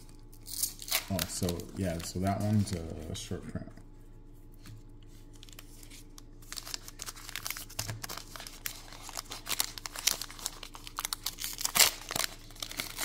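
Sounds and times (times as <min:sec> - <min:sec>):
plastic wrapper crinkling: 0:00.0 - 0:03.1, 0:04.9 - 0:13.0.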